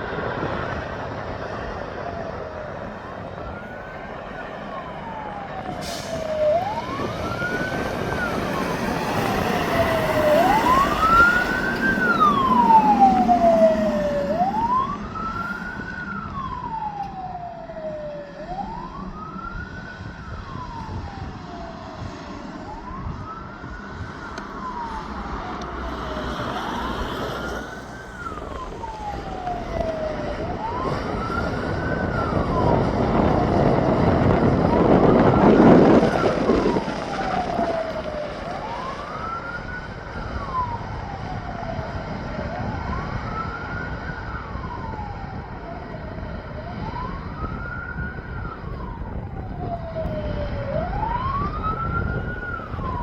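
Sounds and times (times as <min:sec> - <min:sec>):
emergency vehicle siren wailing: 0:00.0 - 0:53.0
road vehicle noise: 0:00.0 - 0:53.0.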